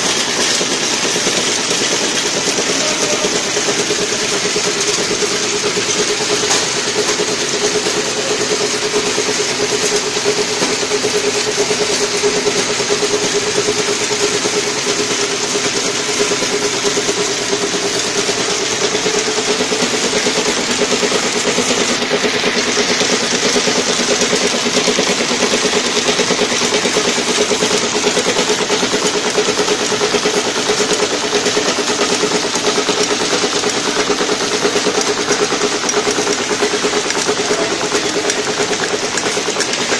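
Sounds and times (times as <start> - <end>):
packing machine humming: 0.0 - 39.9.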